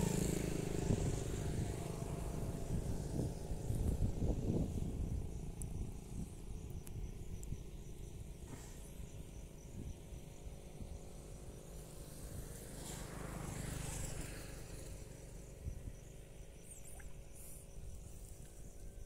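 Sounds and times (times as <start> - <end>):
faint insects chirping: 0.1 - 19.0.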